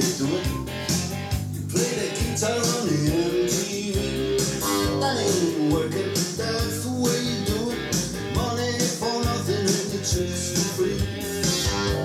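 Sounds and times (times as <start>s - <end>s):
guitar music from cassette: 0.0s - 12.0s.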